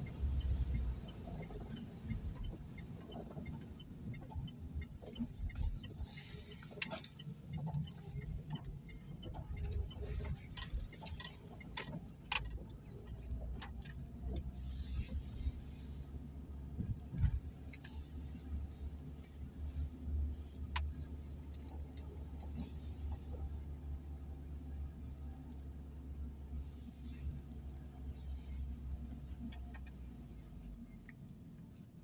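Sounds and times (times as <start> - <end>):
engine and tyre rumble: 0.0 - 32.0.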